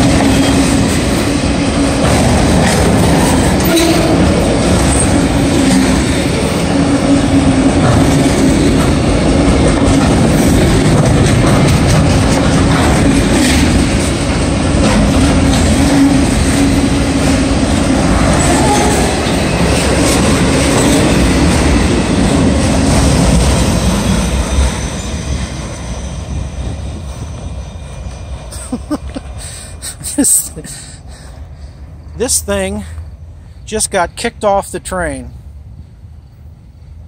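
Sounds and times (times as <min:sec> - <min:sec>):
train wheels rumbling and clattering: 0:00.0 - 0:37.0.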